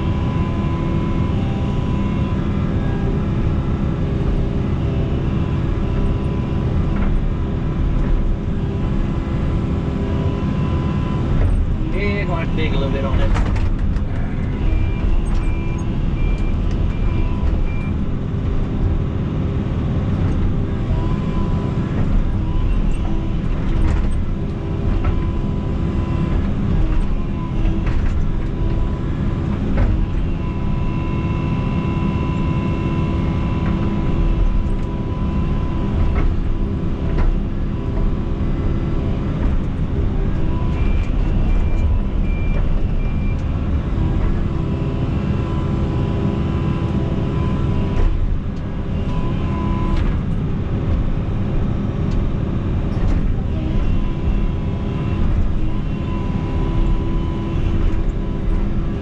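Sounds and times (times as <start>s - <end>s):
diesel engine under load: 0.0s - 59.0s
hydraulic whine: 0.0s - 59.0s.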